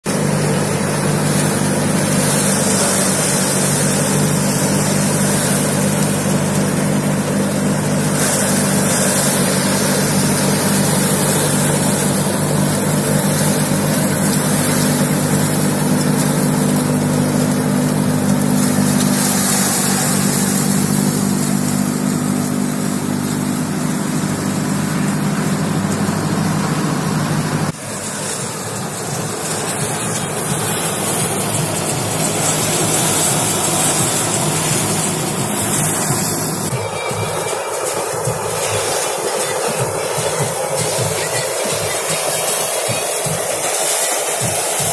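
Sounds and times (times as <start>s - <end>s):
diesel tractor engine running: 0.0s - 44.9s
straw chopper whirring: 0.0s - 44.9s.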